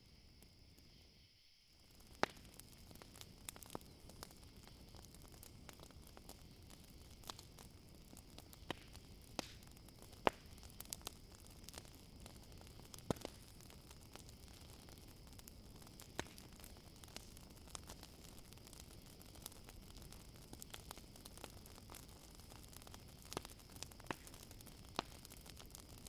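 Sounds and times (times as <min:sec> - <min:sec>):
crickets chirring: 0:00.0 - 0:26.0
campfire crackling and popping: 0:01.7 - 0:26.0.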